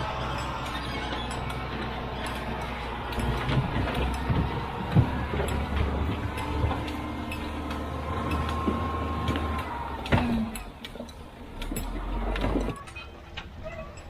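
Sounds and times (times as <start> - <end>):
hydraulic whine: 0.0 - 12.9
diesel engine rumble: 0.0 - 14.0.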